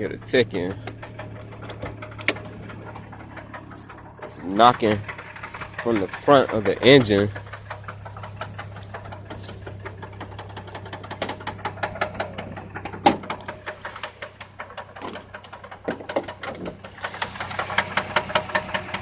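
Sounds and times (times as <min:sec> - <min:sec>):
car engine idling: 0:00.0 - 0:19.0
engine knocking: 0:00.0 - 0:19.0.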